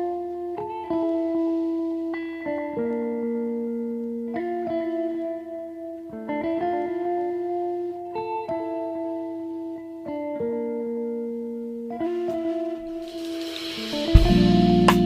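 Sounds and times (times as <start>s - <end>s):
plucked string chords: 0.1s - 15.0s.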